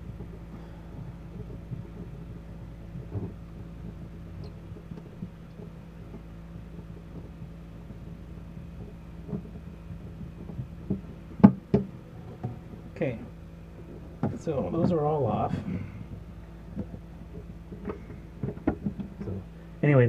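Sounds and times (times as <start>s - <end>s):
faint knocks and clicks: 0.0s - 19.5s
steady low hum: 0.0s - 20.0s.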